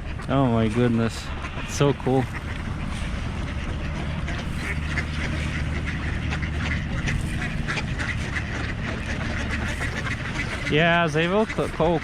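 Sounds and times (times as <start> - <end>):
ducks quacking: 0.0 - 12.0
low steady hum: 0.0 - 12.0.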